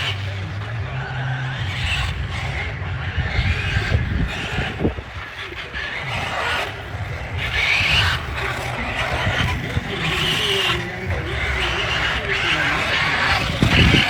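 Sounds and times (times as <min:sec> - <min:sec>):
electric motor whine: 0:00.0 - 0:14.0
tyres rumbling on ground: 0:00.0 - 0:14.0.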